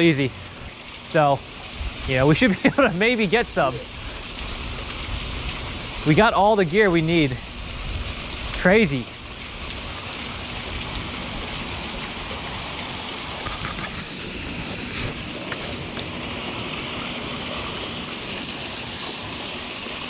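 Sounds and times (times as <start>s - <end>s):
water splashing through gate leak: 0.0s - 20.0s.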